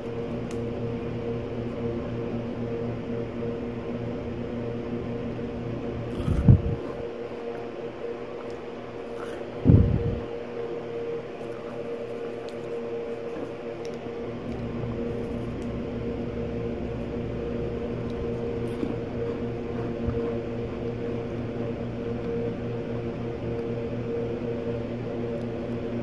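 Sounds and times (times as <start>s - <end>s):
steady appliance hum: 0.0s - 26.0s.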